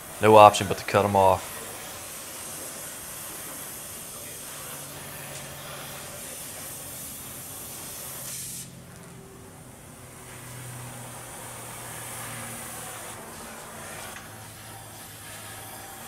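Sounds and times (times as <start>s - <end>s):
cutting torch hissing: 0.0s - 16.0s.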